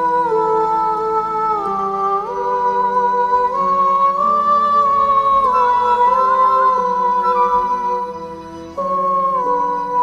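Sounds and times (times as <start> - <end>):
slow held-note background music: 0.0 - 10.0.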